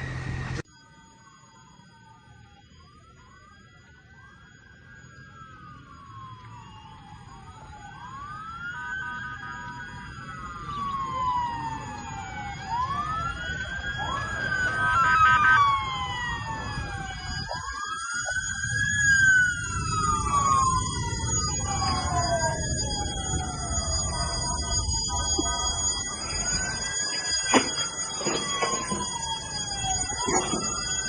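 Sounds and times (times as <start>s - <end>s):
emergency sirens wailing: 0.0s - 31.0s.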